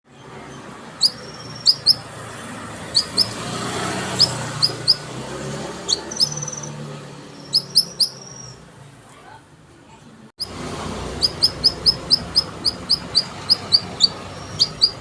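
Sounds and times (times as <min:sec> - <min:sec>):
canary chirping: 0:00.2 - 0:08.7, 0:10.4 - 0:15.0.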